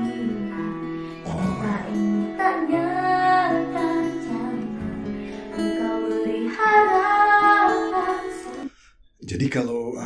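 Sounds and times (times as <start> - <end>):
guitar accompaniment: 0.0 - 8.7
woman singing a pop ballad: 0.0 - 8.7.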